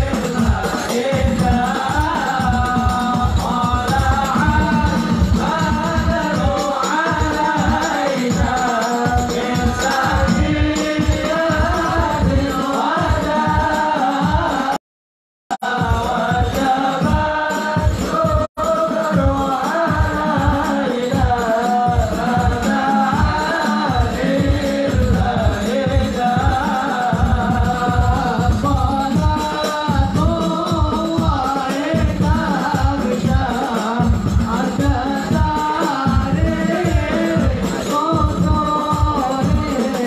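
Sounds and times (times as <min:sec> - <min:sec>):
frame drums beating: 0:00.0 - 0:14.8, 0:15.6 - 0:40.0
men singing in unison: 0:00.0 - 0:14.8, 0:15.5 - 0:40.0.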